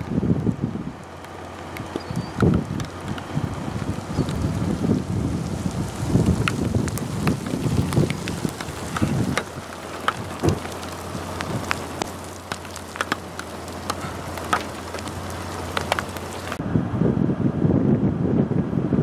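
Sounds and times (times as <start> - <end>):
soft rain hiss: 0.0 - 16.6
raindrops tapping on window glass: 1.2 - 16.6.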